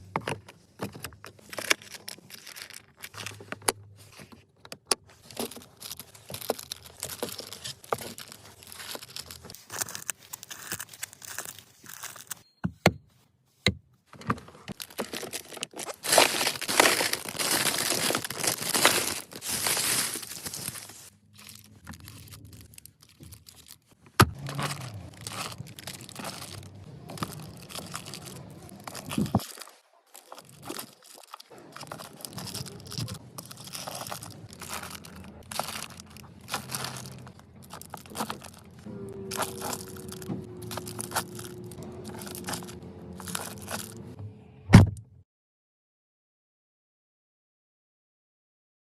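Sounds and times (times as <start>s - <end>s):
rustling and crinkling: 0.0s - 12.4s, 13.1s - 44.2s.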